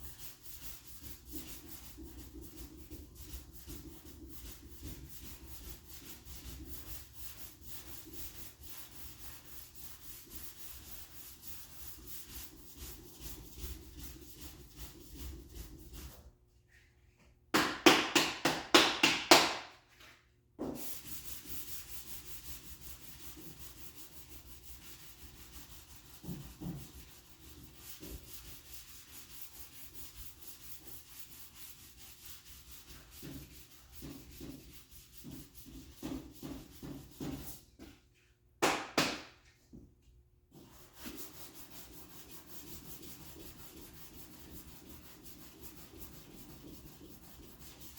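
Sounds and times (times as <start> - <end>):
sandpaper rubbing back and forth: 0.0 - 16.2, 20.8 - 37.5, 40.6 - 47.9.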